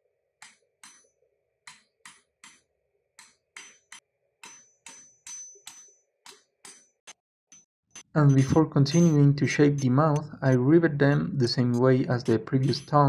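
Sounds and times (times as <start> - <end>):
hammer striking metal on anvil: 0.4 - 2.6, 3.2 - 7.1, 8.0 - 13.0.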